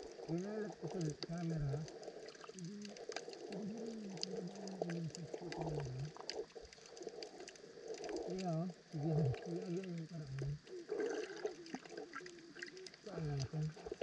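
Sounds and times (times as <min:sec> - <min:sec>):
muffled voice humming underwater: 0:00.0 - 0:06.3, 0:08.1 - 0:14.0
sharp underwater clicks: 0:00.1 - 0:14.0.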